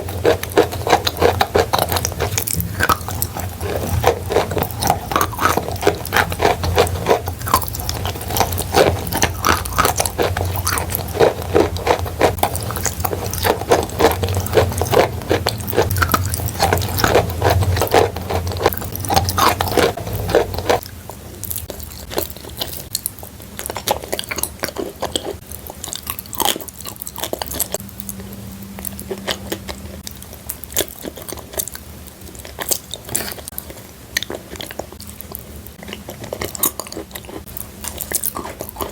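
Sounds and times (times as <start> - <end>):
crunching and chewing chalk: 0.0 - 38.9.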